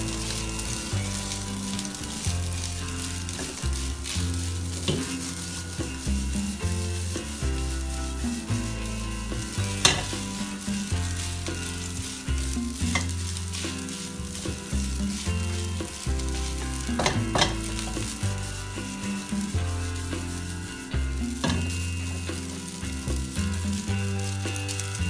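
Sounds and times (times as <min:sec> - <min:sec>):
rice sizzling in a wok: 0:00.0 - 0:25.0
spatula scraping a pan: 0:00.0 - 0:25.0.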